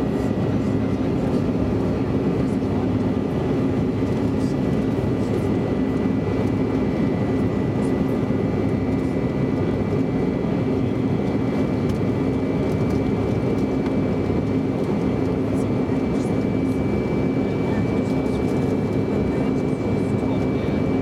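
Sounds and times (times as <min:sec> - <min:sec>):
airflow rush in cabin: 0:00.0 - 0:21.0
jet engines humming: 0:00.0 - 0:21.0.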